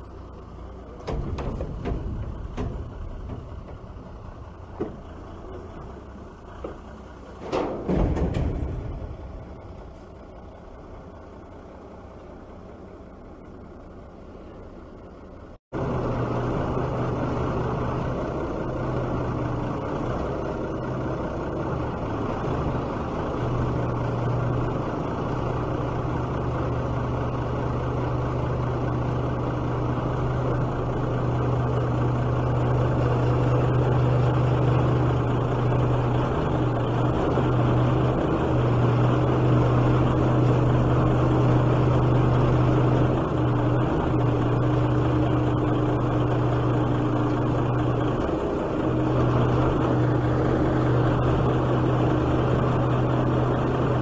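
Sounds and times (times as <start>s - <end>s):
low hum: 0.0s - 54.0s
truck engine running: 0.0s - 54.0s.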